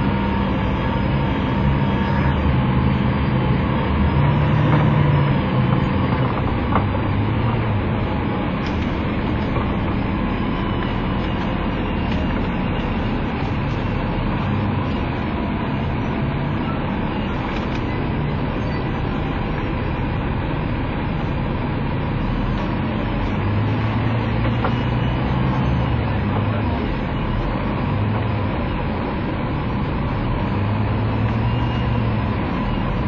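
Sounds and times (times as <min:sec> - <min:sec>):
bus diesel engine idling: 0:00.0 - 0:33.0.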